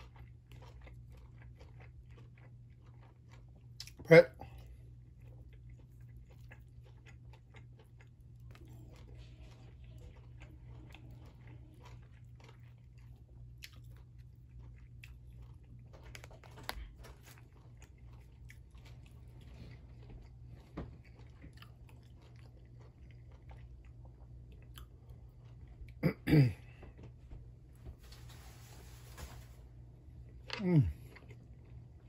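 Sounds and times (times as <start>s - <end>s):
person chewing and biting food: 0.0s - 26.2s, 30.2s - 32.0s.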